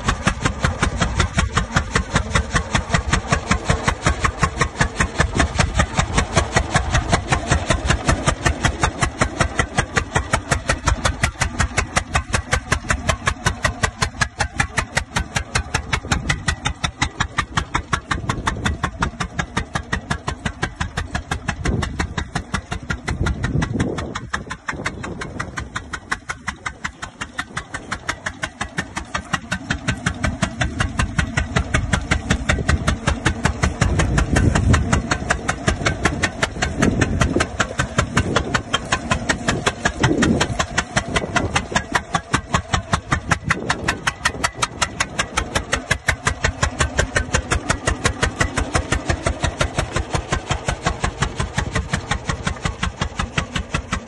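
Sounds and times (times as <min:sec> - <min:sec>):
tractor engine exhaust beats: 0:00.0 - 0:54.0.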